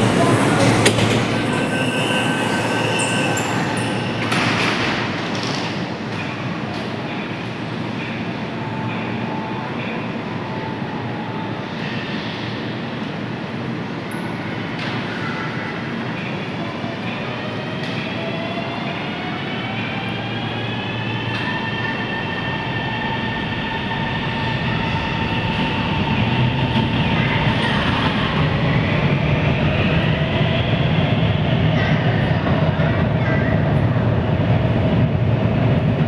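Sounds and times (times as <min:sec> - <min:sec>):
train running noise: 0:00.0 - 0:36.0.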